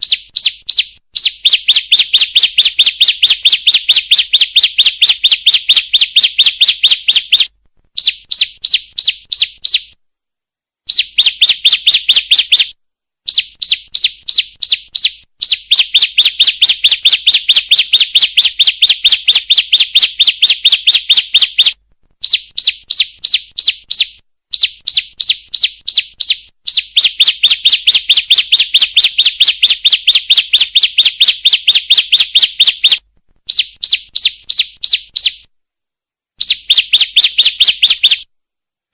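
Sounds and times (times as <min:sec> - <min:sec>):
bird rapid sharp chirping: 0:00.0 - 0:10.0, 0:10.9 - 0:35.5, 0:36.4 - 0:38.3.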